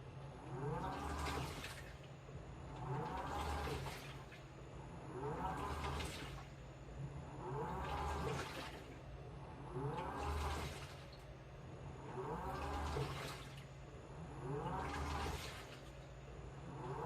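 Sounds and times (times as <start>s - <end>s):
washing machine motor whining: 0.0s - 17.0s
water sloshing in drum: 0.2s - 17.0s.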